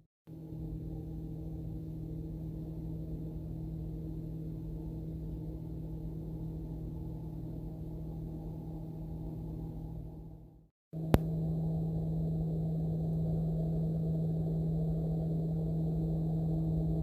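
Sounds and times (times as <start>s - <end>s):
machine hum: 0.3s - 17.0s.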